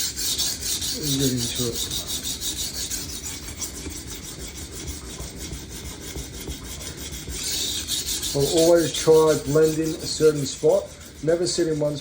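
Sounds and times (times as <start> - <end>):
knife scraping on sharpening plate: 0.0 - 12.0.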